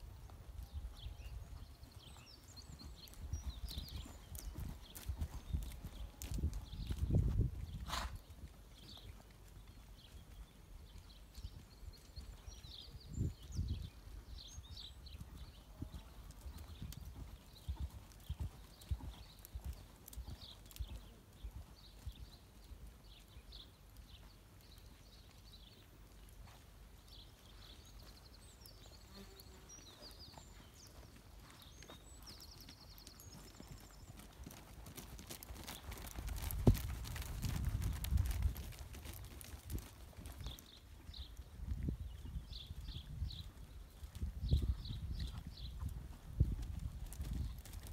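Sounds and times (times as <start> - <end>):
horse hoofbeats on loose ground: 0.0 - 47.9.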